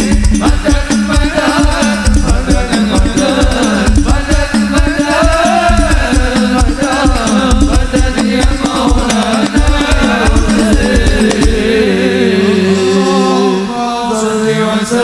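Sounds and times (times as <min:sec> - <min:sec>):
bass-heavy hand-drum beats: 0:00.0 - 0:12.0
devotional music with melody: 0:00.0 - 0:15.0.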